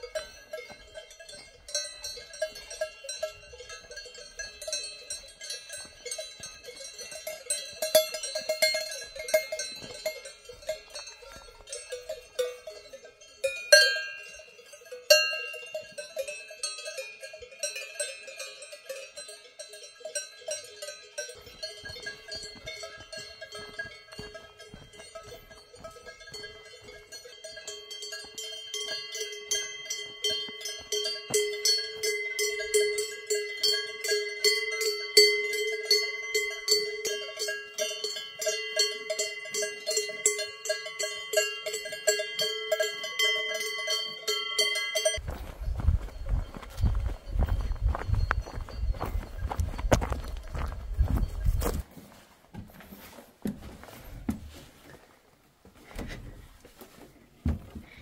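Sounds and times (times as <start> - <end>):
cowbells clanging: 0.0 - 51.9.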